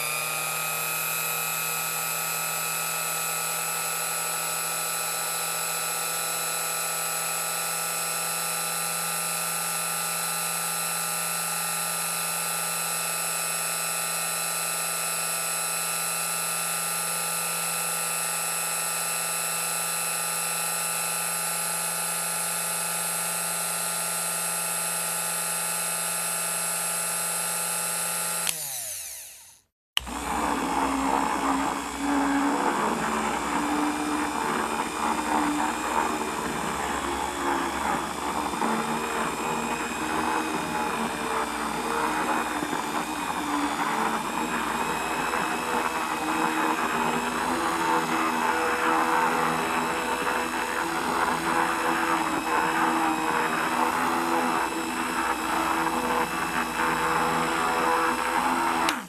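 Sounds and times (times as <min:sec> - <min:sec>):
electric hand mixer whining: 0:00.0 - 0:59.0
mixer beaters working in bowl: 0:00.0 - 0:59.0.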